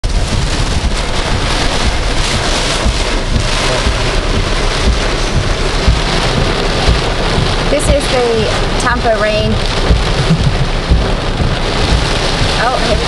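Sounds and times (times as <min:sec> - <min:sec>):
heavy rain on car roof: 0:00.0 - 0:13.0
low road rumble: 0:00.0 - 0:13.0.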